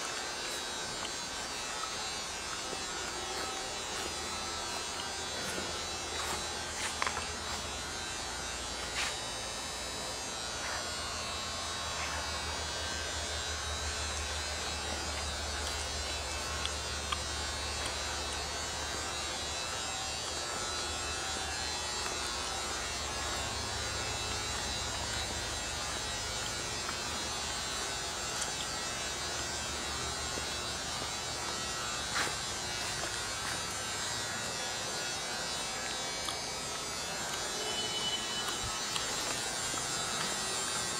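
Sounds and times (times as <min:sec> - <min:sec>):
low electrical buzz: 0:00.0 - 0:40.9.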